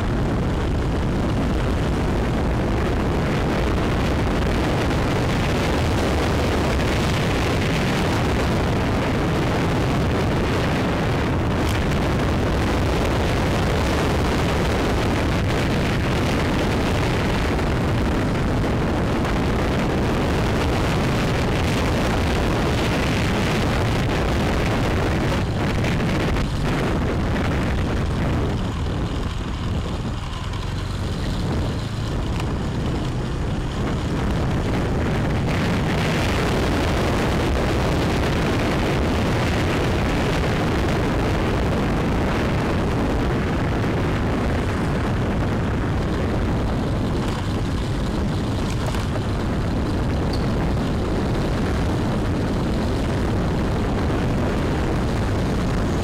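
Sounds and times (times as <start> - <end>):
motorbike engine running: 0.0 - 56.0
wind rushing over microphone: 0.0 - 56.0.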